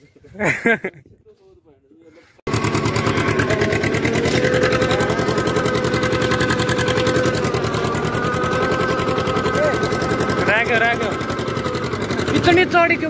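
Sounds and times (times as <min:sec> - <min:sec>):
tractor diesel engine running: 0:02.4 - 0:13.0.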